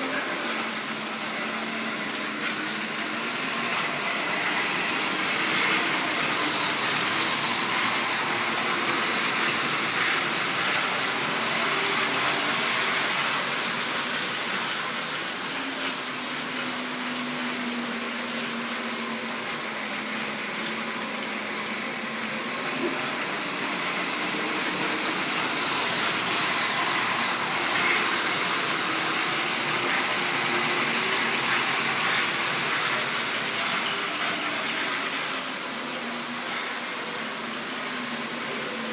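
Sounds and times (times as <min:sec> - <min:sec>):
model train wheels rumbling on rails: 0:00.0 - 0:38.9.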